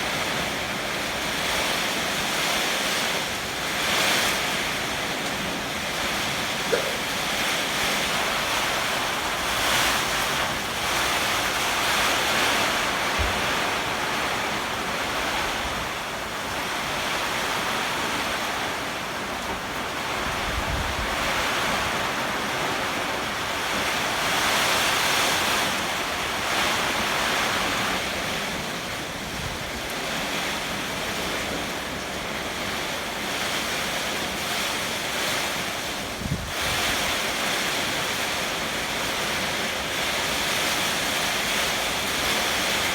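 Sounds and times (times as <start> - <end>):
strong gusting wind: 0.0 - 18.9, 19.9 - 29.8, 35.1 - 42.9
heavy rain: 0.0 - 42.9.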